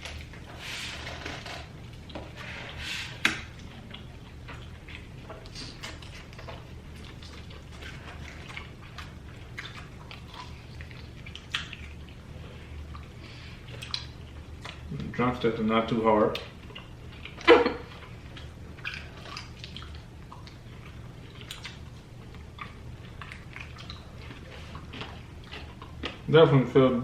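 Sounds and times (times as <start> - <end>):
chewing and smacking: 0.0 - 15.2, 16.2 - 26.3
low steady hum: 0.0 - 27.0.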